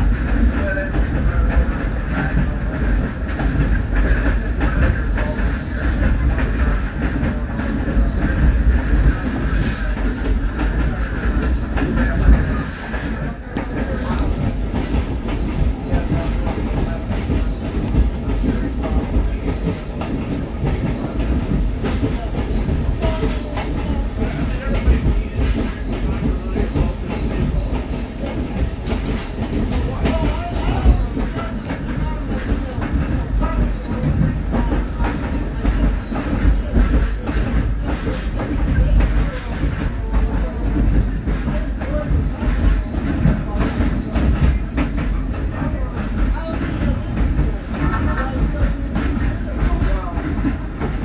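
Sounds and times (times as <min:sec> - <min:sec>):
wheels rumbling on rail: 0:00.0 - 0:51.0.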